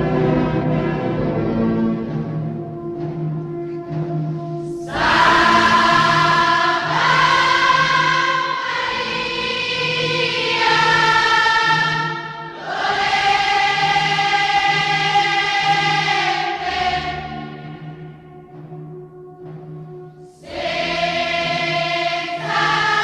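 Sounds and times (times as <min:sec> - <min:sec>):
choir singing held chords: 0:03.9 - 0:23.0.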